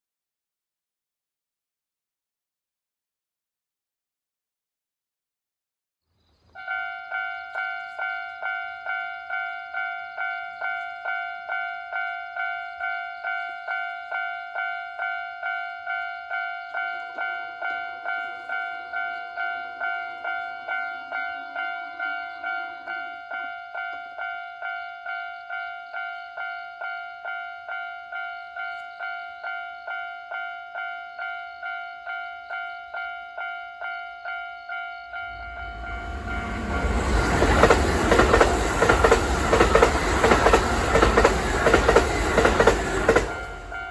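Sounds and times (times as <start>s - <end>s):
level crossing warning bell: 6.6s - 43.9s.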